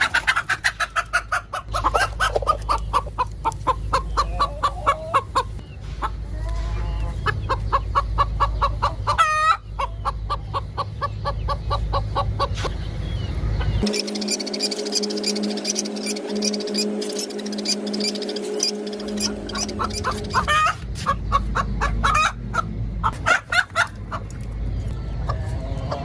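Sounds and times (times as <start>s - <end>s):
low steady hum: 0.0s - 23.1s
hen clucking: 0.0s - 24.4s.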